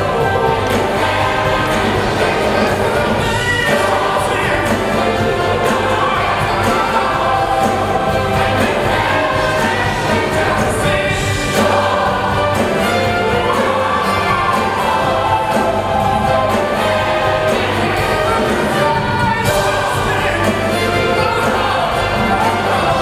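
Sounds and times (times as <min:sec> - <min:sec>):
bass: 0:00.0 - 0:23.0
drums keeping a steady beat: 0:00.0 - 0:23.0
gospel choir singing: 0:00.0 - 0:23.0
horns: 0:00.0 - 0:23.0
piano: 0:00.0 - 0:23.0.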